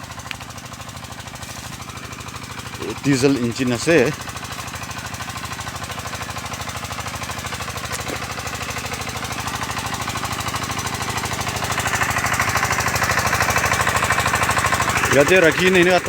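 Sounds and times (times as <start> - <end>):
water pump diesel engine chugging: 0.0 - 16.0.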